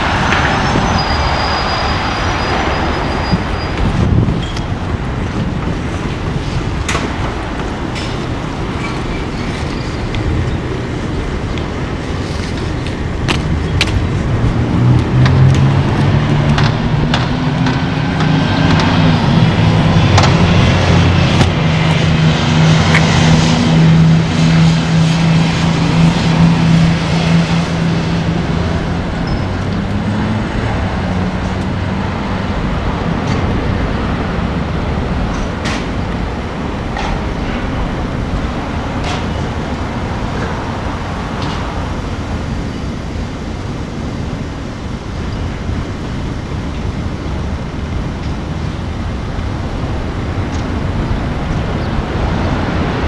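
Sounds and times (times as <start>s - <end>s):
distant traffic: 0.0s - 53.0s
passing motor hum: 0.0s - 53.0s
wind: 0.0s - 53.0s.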